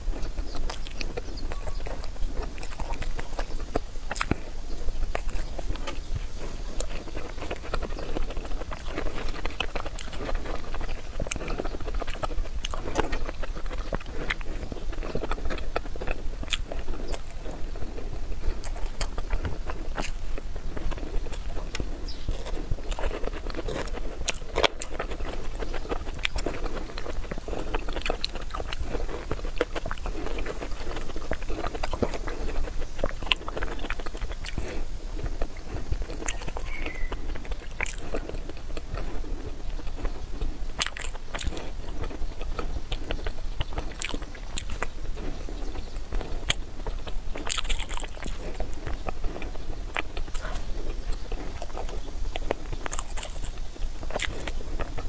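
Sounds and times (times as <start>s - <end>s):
mouth clicks: 0.0s - 55.0s
person chewing food: 0.0s - 55.0s.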